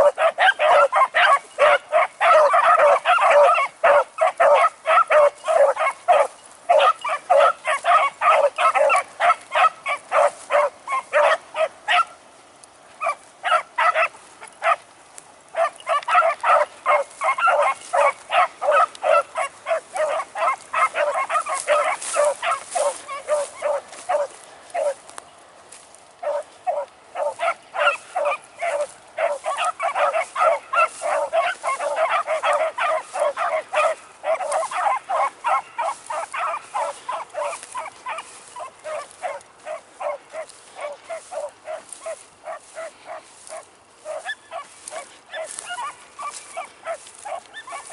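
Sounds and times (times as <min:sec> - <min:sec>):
dogs baying: 0:00.0 - 0:12.2, 0:12.9 - 0:14.9, 0:15.5 - 0:25.1, 0:25.7 - 0:47.9.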